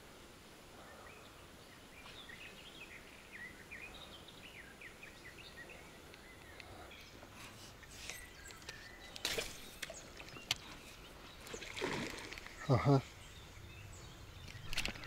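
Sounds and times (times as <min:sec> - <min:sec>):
faint background hiss: 0:00.0 - 0:15.0
songbird chirping: 0:00.8 - 0:15.0.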